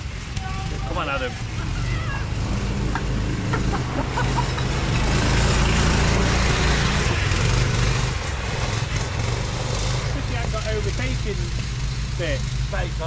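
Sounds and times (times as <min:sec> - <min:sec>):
off-road buggy engines: 0:00.0 - 0:13.0.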